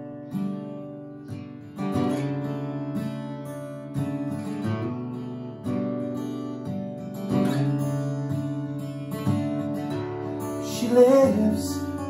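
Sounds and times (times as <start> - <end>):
acoustic guitar chords strummed: 0.0 - 12.0.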